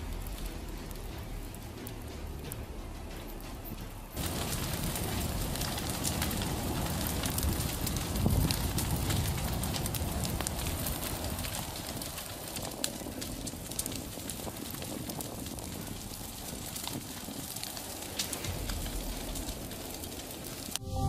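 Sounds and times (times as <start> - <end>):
flames rushing: 0.0 - 20.8
fire crackling and popping: 0.0 - 21.0.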